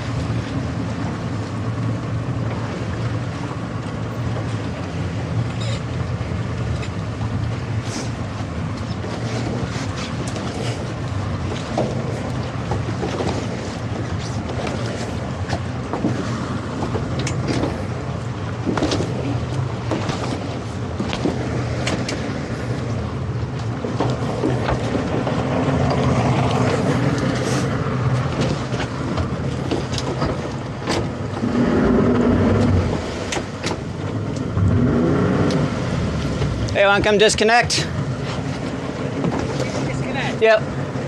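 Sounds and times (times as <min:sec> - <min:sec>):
boat engine running under load: 0:00.0 - 0:41.0
knocks and splashes: 0:00.0 - 0:41.0
water noise: 0:00.0 - 0:41.0
wind: 0:00.0 - 0:41.0.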